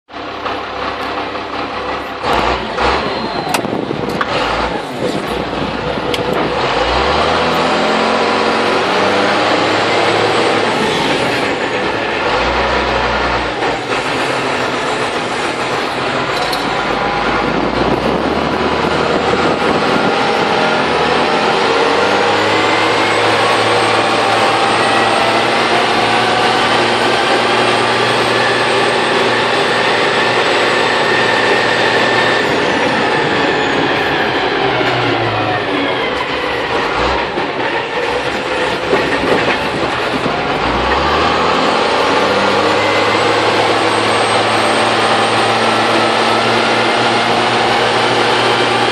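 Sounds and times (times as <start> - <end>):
truck diesel engine under load: 0.1 - 48.9.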